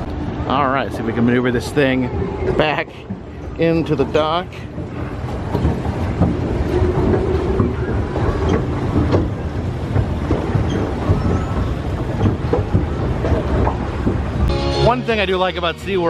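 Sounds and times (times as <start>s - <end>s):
pedal drive rattling: 2.5s - 16.0s.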